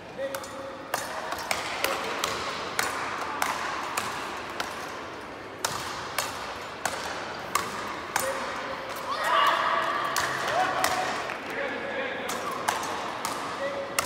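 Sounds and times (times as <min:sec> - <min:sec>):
rackets hitting ball: 0:00.3 - 0:11.4, 0:12.2 - 0:14.0.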